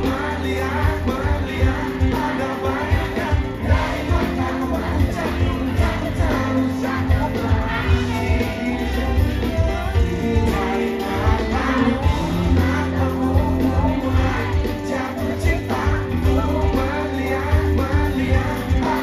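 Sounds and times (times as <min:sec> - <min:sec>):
live pop band with singing: 0:00.0 - 0:19.0.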